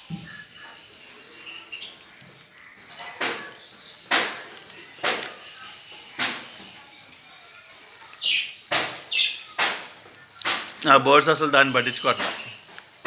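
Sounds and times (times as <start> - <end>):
harsh rasping bird sounds: 0.0 - 13.0
lovebirds chirping: 0.0 - 13.0.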